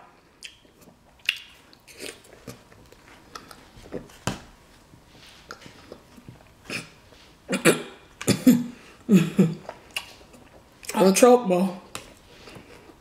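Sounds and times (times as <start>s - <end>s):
person chewing juicy fruit: 0.0s - 11.0s.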